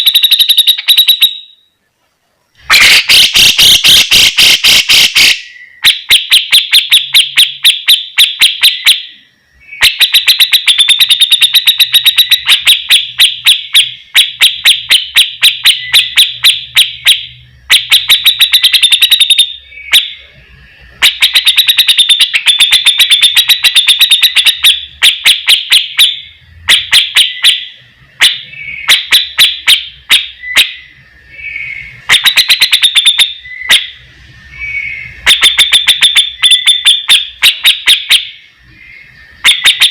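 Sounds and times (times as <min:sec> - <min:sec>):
bird rapid rattling song: 0:02.6 - 0:20.2, 0:20.9 - 0:39.9.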